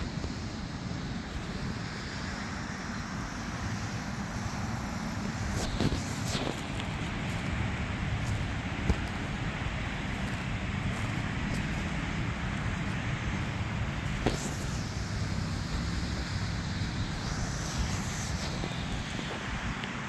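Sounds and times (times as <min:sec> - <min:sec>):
distant road traffic: 0:00.0 - 0:20.0
faint high whine: 0:00.0 - 0:20.0
wind on microphone: 0:00.0 - 0:20.0.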